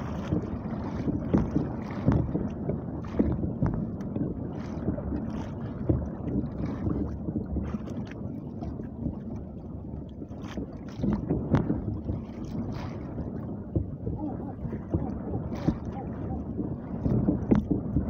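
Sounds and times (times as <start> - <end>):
water sloshing against hull: 0.0 - 18.0
wind buffeting microphone: 0.0 - 18.0.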